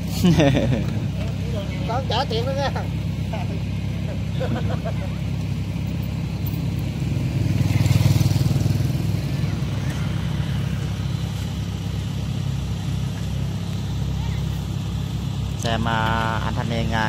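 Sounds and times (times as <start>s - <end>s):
low engine drone: 0.0s - 17.0s
motorbike passing: 0.0s - 17.0s.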